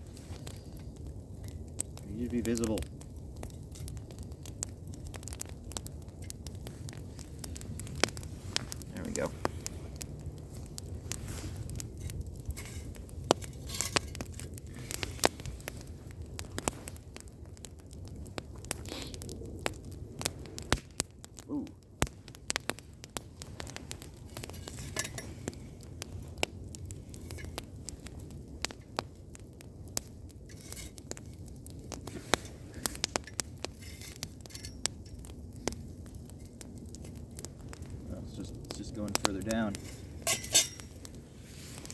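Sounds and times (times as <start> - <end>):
burning plastic crackling and popping: 0.0 - 41.9.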